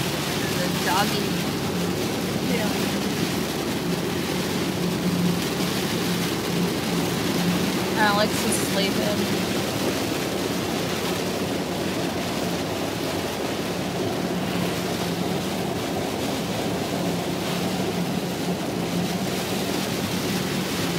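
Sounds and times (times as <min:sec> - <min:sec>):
heavy rain on car: 0:00.0 - 0:20.9
road noise in car cabin: 0:00.0 - 0:20.9.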